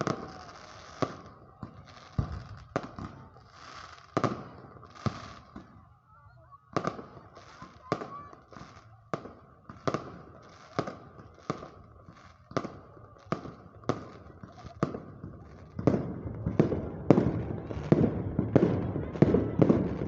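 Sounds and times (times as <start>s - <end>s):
fireworks banging: 0.0s - 5.8s, 6.7s - 20.0s.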